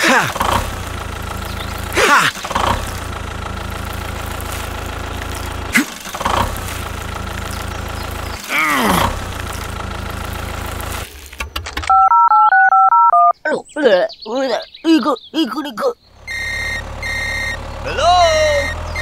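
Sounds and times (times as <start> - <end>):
tractor engine droning: 0.0 - 13.1, 16.0 - 19.0.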